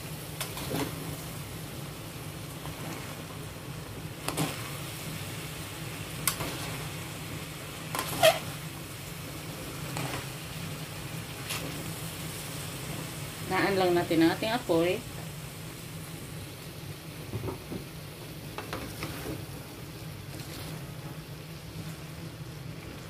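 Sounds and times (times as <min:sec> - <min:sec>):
noodles sizzling in a frying pan: 0:00.0 - 0:23.0.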